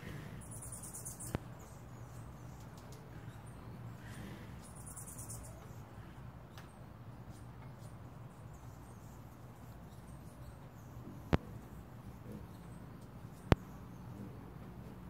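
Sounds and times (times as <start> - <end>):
hummingbirds squeaky chatter: 0.0 - 15.0.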